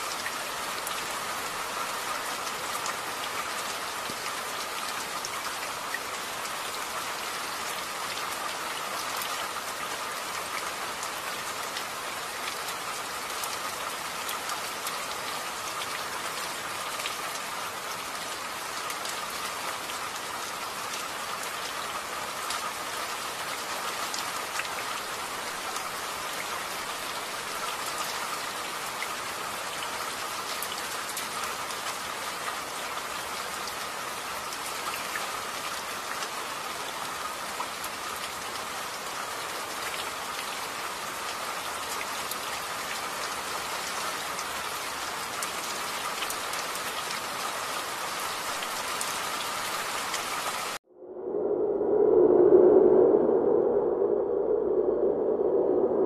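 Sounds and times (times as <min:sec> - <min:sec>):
steady rain falling: 0:00.0 - 0:50.8.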